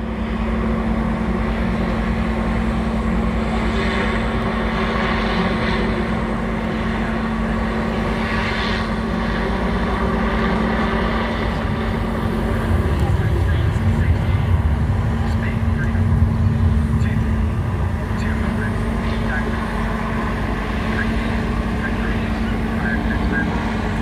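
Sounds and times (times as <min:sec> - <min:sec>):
airship propeller engines droning: 0:00.0 - 0:24.0.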